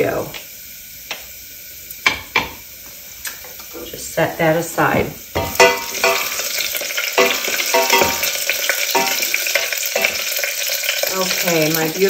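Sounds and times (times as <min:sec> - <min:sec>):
spices sizzling in hot fat: 0:00.0 - 0:12.0.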